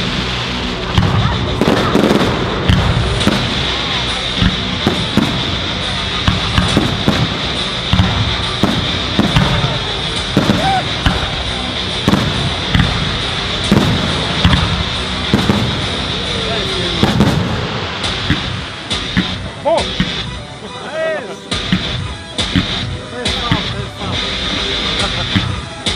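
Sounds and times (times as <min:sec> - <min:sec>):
fireworks bursting: 0:00.0 - 0:25.9.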